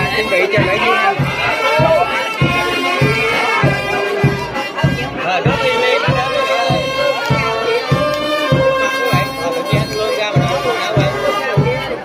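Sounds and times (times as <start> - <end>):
drum beating steadily: 0.0 - 12.0
reedy wind instrument melody: 0.0 - 12.0.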